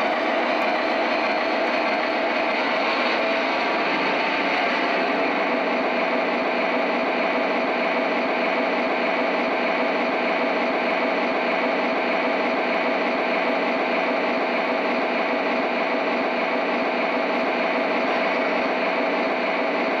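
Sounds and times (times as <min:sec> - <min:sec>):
model train running: 0:00.0 - 0:20.0.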